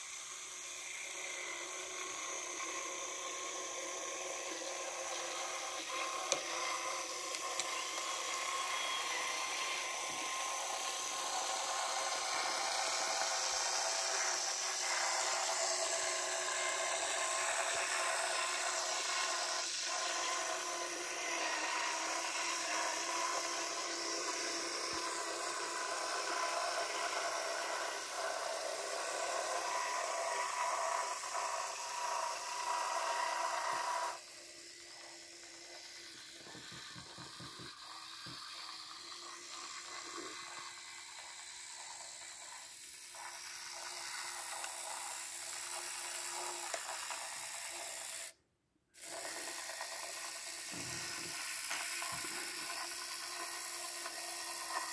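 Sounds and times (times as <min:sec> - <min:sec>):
model train motor whine: 0:00.0 - 0:48.4, 0:49.0 - 0:54.9.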